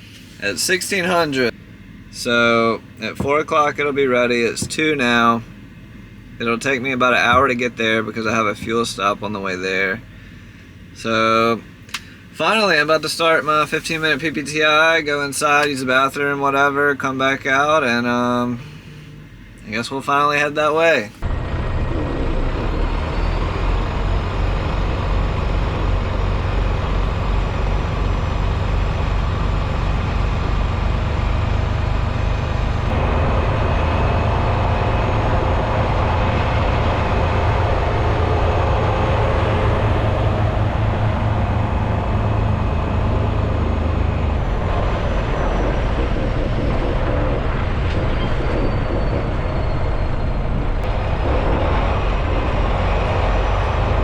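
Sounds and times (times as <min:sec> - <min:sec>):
road noise: 0:00.0 - 0:54.0
truck diesel engine rumbling: 0:00.0 - 0:54.0.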